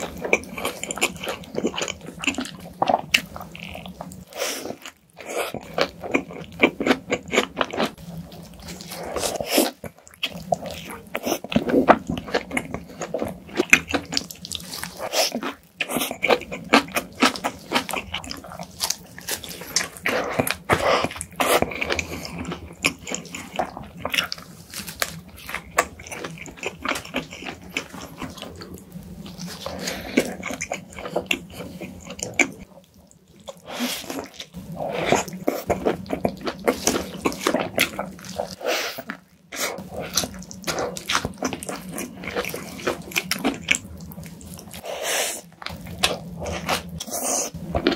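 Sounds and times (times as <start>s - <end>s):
wet chewing and lip-smacking: 0.0s - 44.8s.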